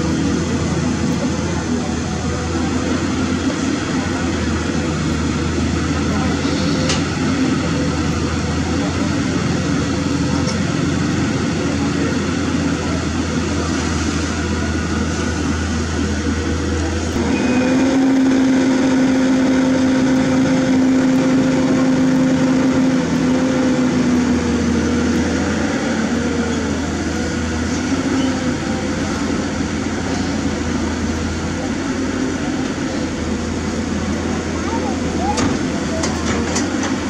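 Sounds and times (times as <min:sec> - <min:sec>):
excavator diesel engine running: 0:00.0 - 0:37.0
hydraulic whine: 0:00.0 - 0:37.0.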